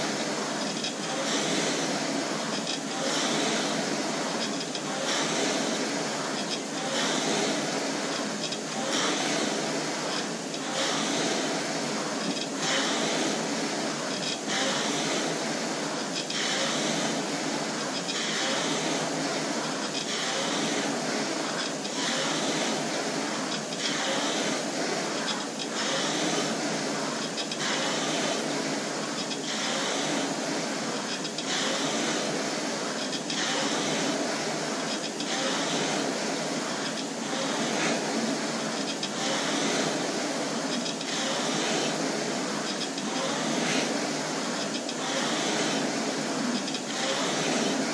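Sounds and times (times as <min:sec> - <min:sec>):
rowing machine fan flywheel whooshing: 0:00.0 - 0:47.9.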